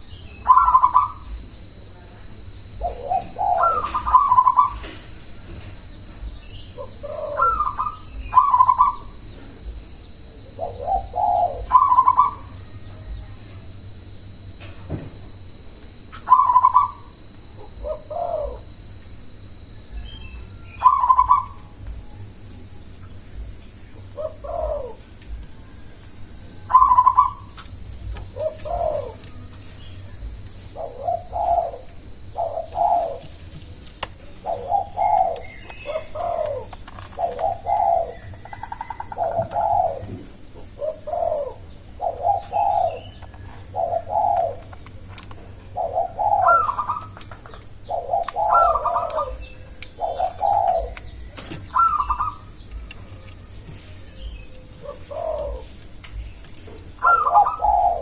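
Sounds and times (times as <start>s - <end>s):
dove cooing: 0.0s - 1.4s, 2.8s - 5.0s, 6.7s - 9.7s, 10.4s - 12.6s, 16.2s - 18.8s, 20.0s - 22.0s, 23.4s - 25.8s, 26.5s - 44.9s, 45.6s - 58.0s.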